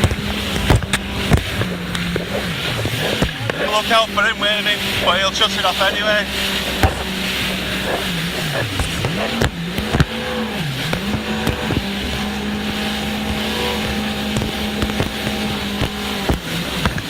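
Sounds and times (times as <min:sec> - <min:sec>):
jet ski engine: 0:00.0 - 0:17.0
wind and water noise: 0:00.0 - 0:17.0.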